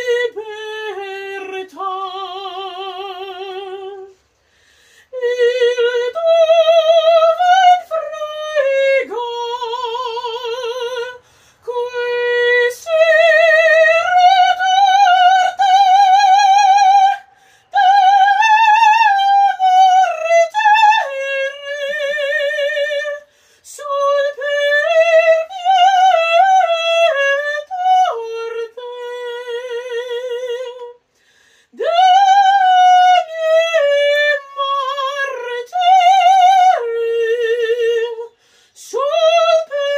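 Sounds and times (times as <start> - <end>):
woman singing opera-style: 0.0 - 4.2, 5.0 - 31.1, 31.7 - 39.9.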